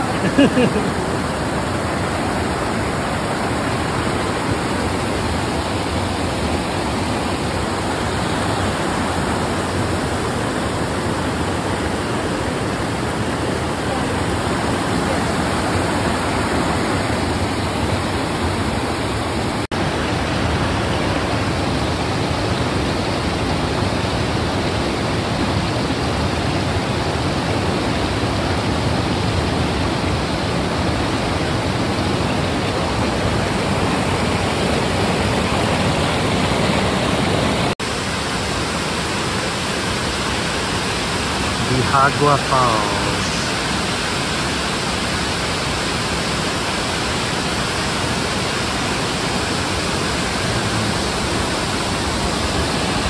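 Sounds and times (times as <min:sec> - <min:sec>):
white water rushing: 0:00.0 - 0:53.0.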